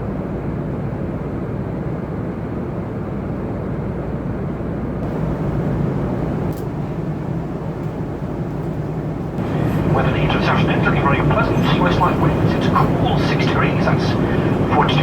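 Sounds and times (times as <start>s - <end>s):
airplane cabin engine rush: 0.0s - 15.0s.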